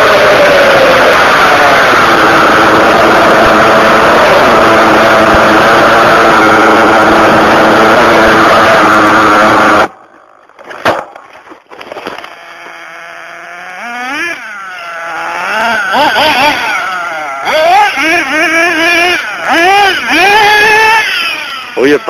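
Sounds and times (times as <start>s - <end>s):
rc car engine high-pitched drone: 0.0s - 10.4s, 12.0s - 22.0s
rc car engine revving: 0.0s - 10.5s, 11.9s - 22.0s.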